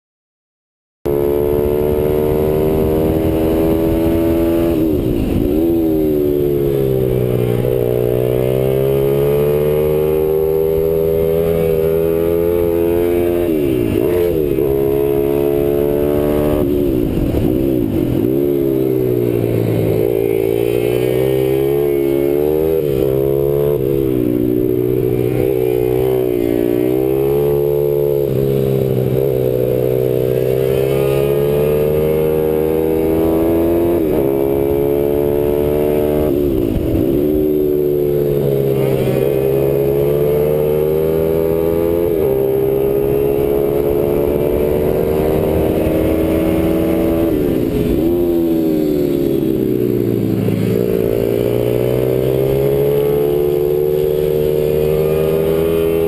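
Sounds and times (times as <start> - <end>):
motorcycle engine revving: 1.1 - 56.0.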